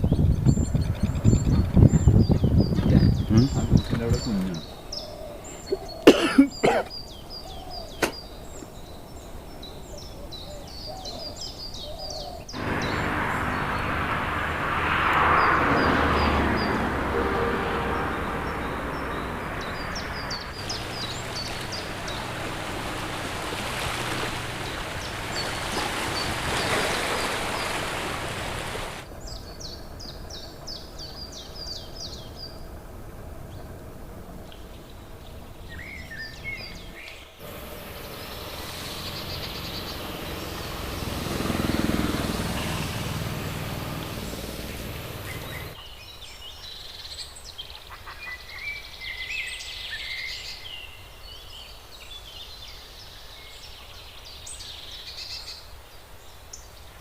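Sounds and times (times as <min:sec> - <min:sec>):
birds twittering: 0:00.0 - 0:32.7, 0:34.4 - 0:55.6
wild birds chirping: 0:00.0 - 0:56.9
outdoor background hiss: 0:03.1 - 0:15.4, 0:17.1 - 0:57.0.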